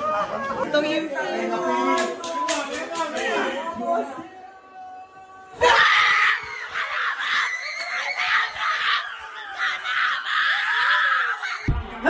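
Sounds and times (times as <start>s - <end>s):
people screaming and shouting: 0.0s - 12.0s.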